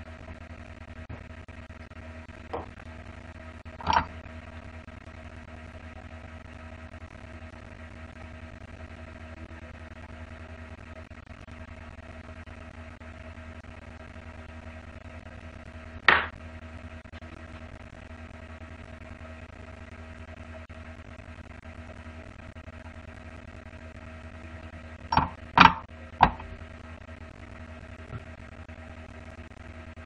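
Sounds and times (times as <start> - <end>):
steady low hum with tones: 0.0 - 30.0.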